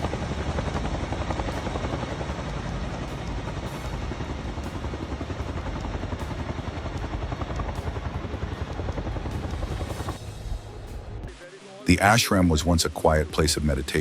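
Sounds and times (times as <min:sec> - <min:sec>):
helicopter rotor chopping: 0:00.0 - 0:11.2.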